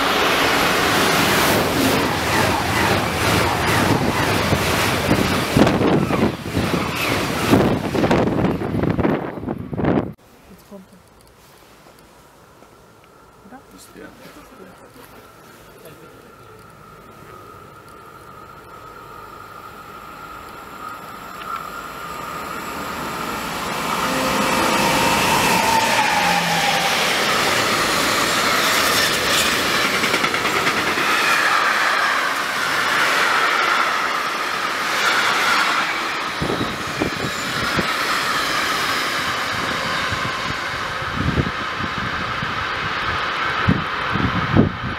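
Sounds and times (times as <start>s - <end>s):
train wheels rolling on rails: 0.0s - 10.0s, 11.7s - 44.9s
electric locomotive passing: 0.0s - 10.2s, 12.3s - 44.9s.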